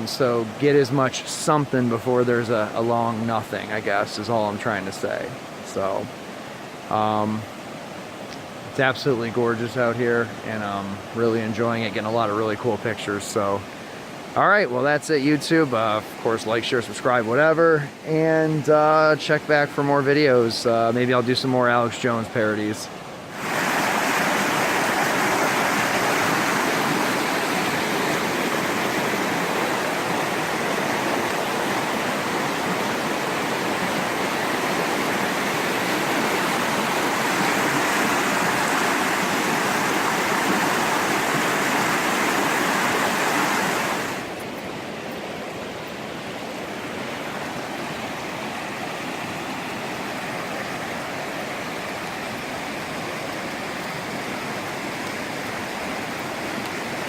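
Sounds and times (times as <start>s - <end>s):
water rushing over waterfall: 0.0s - 57.0s.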